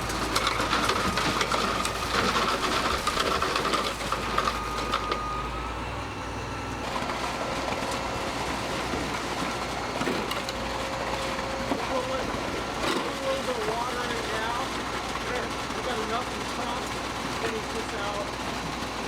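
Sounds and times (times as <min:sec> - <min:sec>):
low engine hum: 0:00.0 - 0:15.7
concrete truck machinery running: 0:00.0 - 0:19.0.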